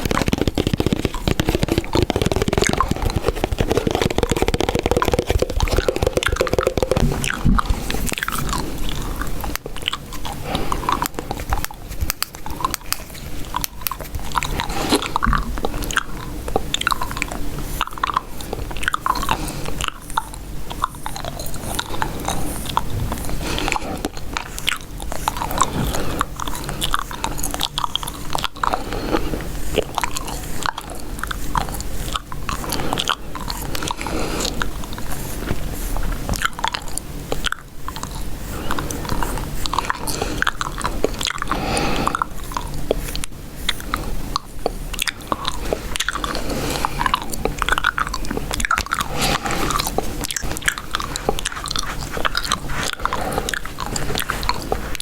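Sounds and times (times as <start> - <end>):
chewing gum wet clicks: 0.0 - 35.6, 36.2 - 55.0.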